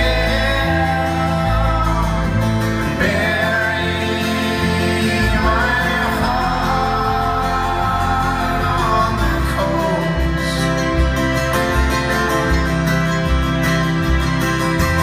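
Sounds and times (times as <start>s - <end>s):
folk-rock band playing: 0.0s - 15.0s.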